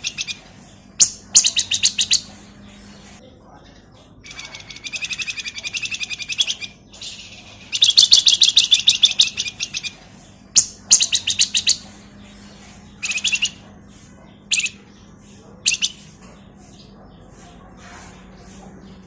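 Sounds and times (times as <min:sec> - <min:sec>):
bird singing chattering trills: 0:00.0 - 0:17.4.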